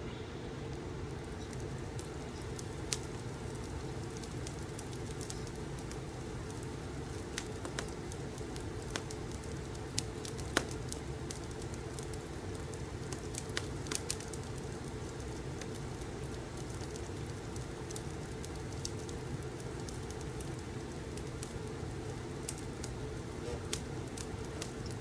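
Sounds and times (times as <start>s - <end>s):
fireplace rumble: 0.0s - 25.0s
fire popping and crackling: 0.6s - 25.0s.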